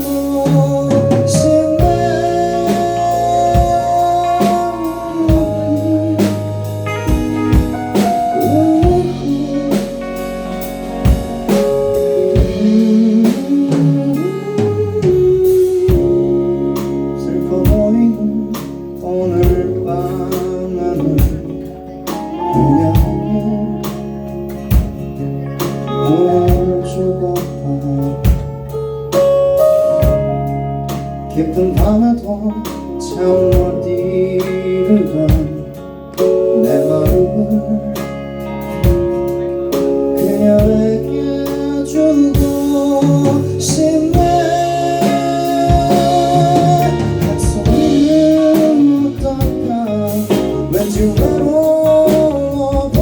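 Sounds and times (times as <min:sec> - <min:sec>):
bass guitar: 0:00.0 - 0:53.0
drum kit beat: 0:00.0 - 0:53.0
electric guitar: 0:00.0 - 0:53.0
sustained keyboard melody: 0:00.0 - 0:53.0.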